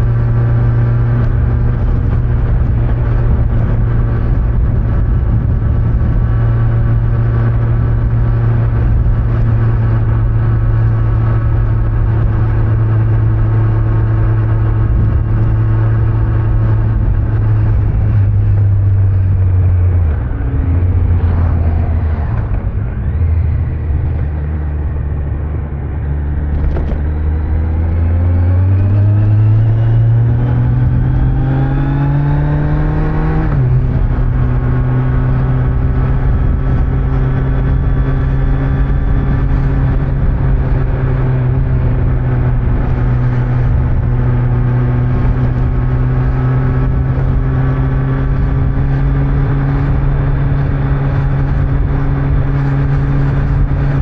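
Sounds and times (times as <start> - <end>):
motorcycle engine revving: 0.0 - 54.0
road noise: 0.0 - 54.0
wind noise: 0.0 - 54.0.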